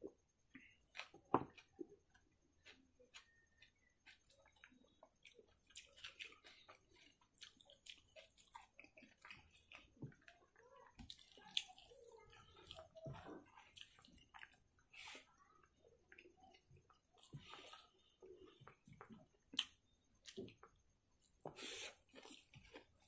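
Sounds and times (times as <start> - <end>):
wet chewing and mouth smacking: 0.5 - 15.3, 16.0 - 23.0.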